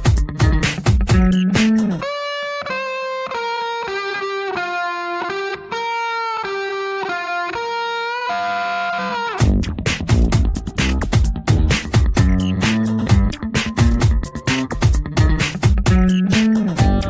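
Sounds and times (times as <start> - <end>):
solo guitar melody: 0.0 - 9.8, 11.5 - 17.0
instrumental music with beat: 0.0 - 17.0.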